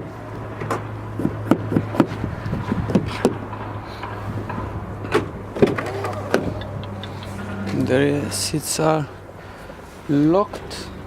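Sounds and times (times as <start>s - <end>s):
steady low hum: 1.0s - 10.1s.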